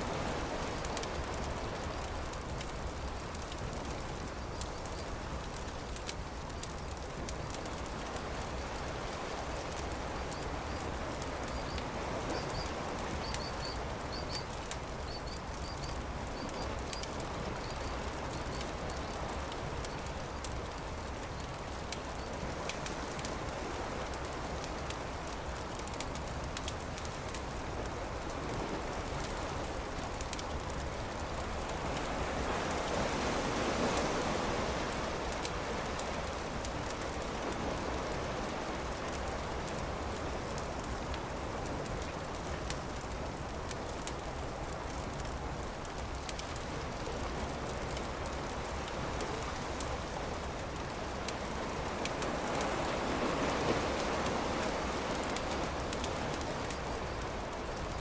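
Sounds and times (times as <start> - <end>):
campfire crackling: 0.0 - 58.0
surf washing: 0.0 - 58.0.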